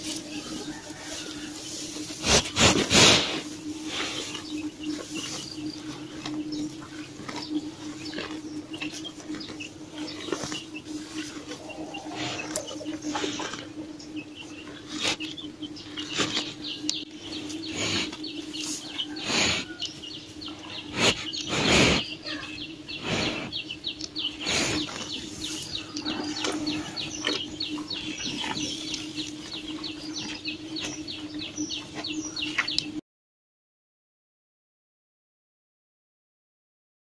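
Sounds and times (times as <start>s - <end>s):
cows snorting and slurping: 0.0s - 32.8s
steady low hum: 0.0s - 33.0s.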